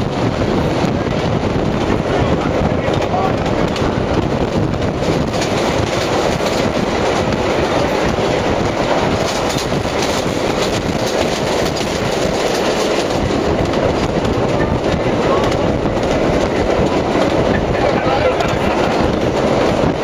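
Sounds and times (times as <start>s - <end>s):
train rumbling: 0.0s - 20.0s
wheels clacking over rail joints: 0.0s - 20.0s.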